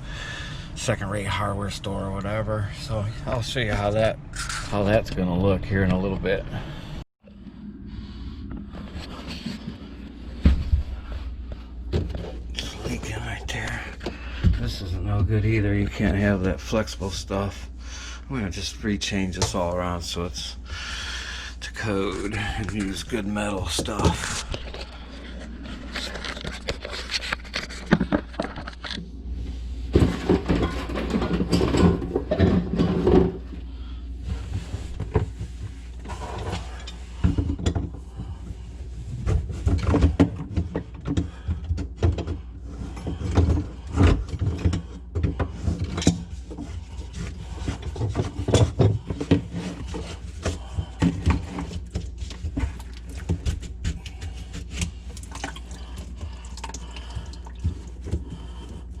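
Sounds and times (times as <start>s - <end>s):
drain pipes clunking and scraping: 0.0s - 6.7s, 8.4s - 59.0s.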